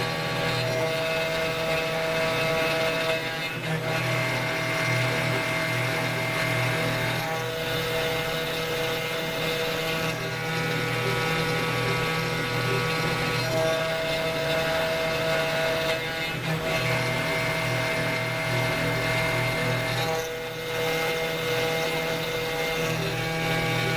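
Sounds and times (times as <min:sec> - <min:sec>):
cnc router whine: 0:00.0 - 0:23.9
cutting noise: 0:00.0 - 0:23.9.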